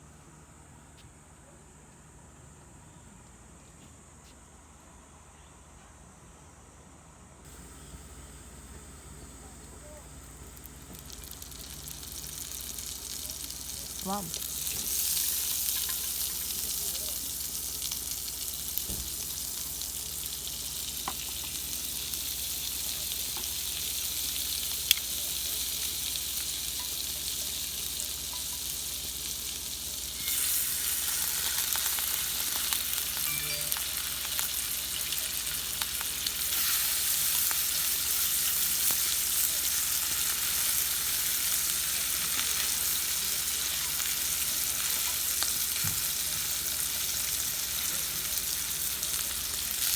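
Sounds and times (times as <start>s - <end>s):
food sizzling: 7.5s - 49.9s.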